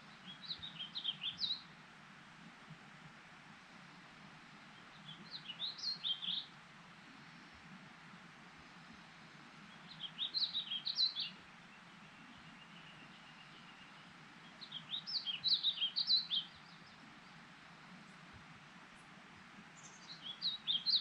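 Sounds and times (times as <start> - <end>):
songbird chirping: 0.0 - 1.9, 3.7 - 7.7, 8.5 - 21.0
faint steady hiss: 0.0 - 21.0.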